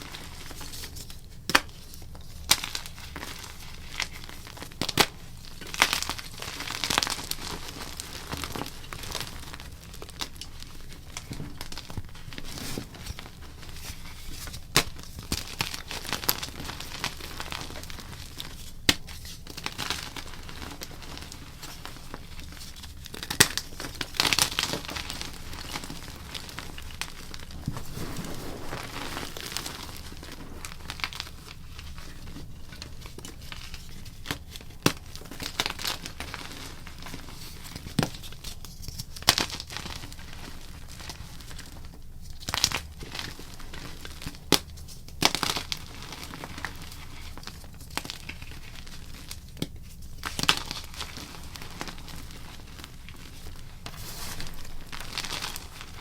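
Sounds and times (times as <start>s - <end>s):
chalk crunching and crumbling: 0.0s - 56.0s.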